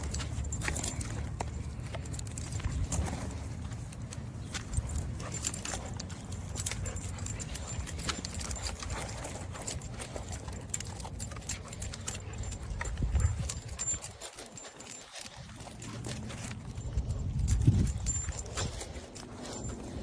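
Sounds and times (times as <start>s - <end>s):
light metal jingling: 0.0s - 20.0s.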